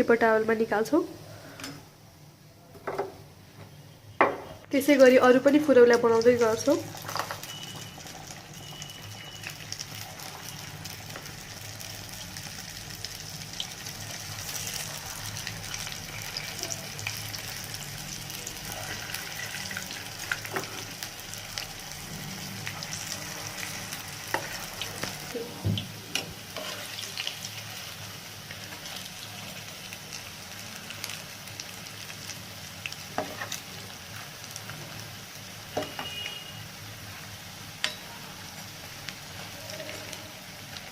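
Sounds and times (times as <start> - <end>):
fritters sizzling in hot oil: 4.7 - 40.9.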